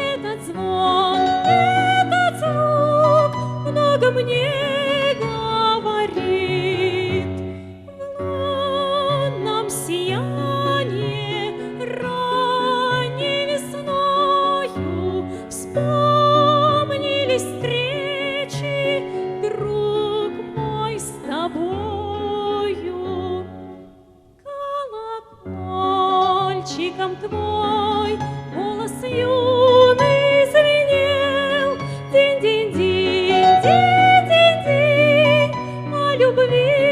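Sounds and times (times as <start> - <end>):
operatic singing with vibrato: 0.0 - 23.7, 24.5 - 36.9.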